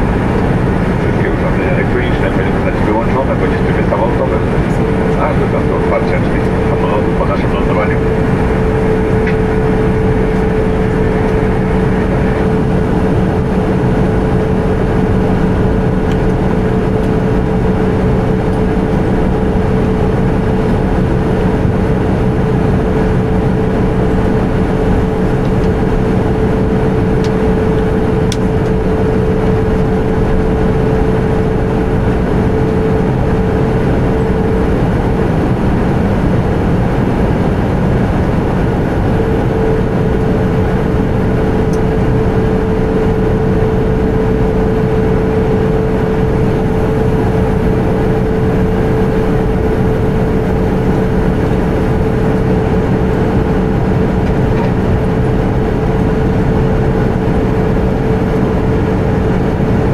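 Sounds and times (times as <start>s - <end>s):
jet engines and airflow rush: 0.0s - 59.9s
steady hum: 0.0s - 59.9s.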